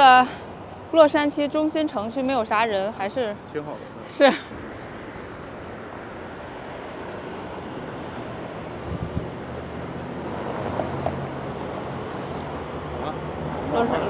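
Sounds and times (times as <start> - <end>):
passing car noise: 0.0 - 14.0
vehicle engine low hum: 0.0 - 14.0.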